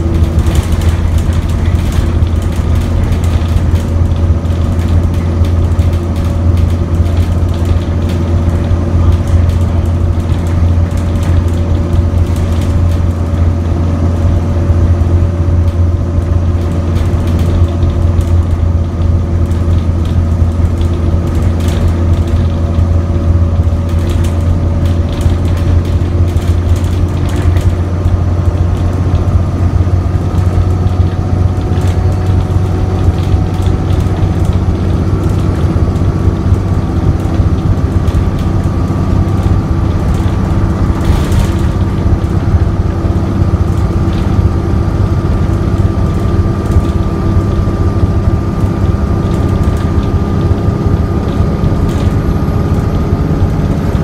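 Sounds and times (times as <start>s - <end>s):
bus engine drone: 0.0s - 54.0s
interior clicks and rattles: 0.0s - 54.0s.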